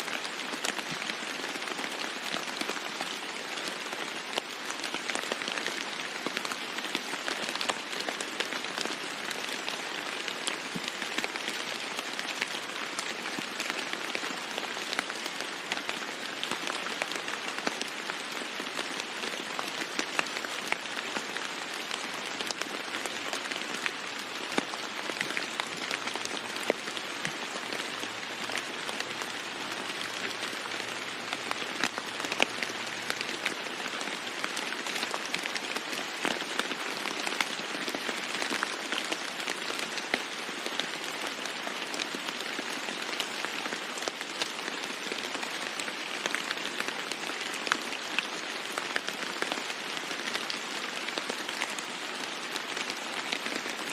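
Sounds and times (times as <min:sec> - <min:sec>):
rain falling on a roof: 0:00.0 - 0:53.9.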